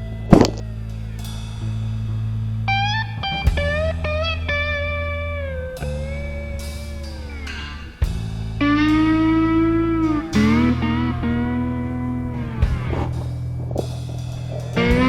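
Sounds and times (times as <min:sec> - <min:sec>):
bass: 0:00.0 - 0:15.0
blues electric guitar: 0:00.0 - 0:15.0
drum kit: 0:00.0 - 0:15.0.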